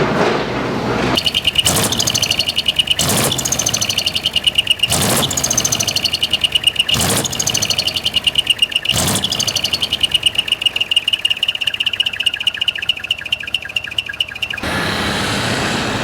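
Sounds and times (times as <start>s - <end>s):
loud exhaust bursts: 0.0s - 16.0s
truck exhaust idling with chirping: 0.7s - 16.0s.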